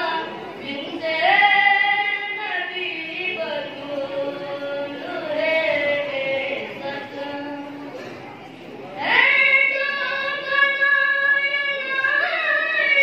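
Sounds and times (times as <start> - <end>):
boy chanting into a microphone: 0.0 - 8.3, 8.9 - 13.0.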